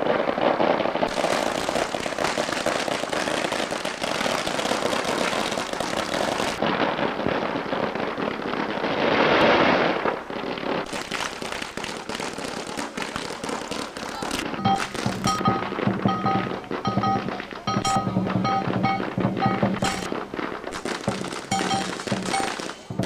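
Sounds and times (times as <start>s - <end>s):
firecrackers popping: 0.0s - 23.0s.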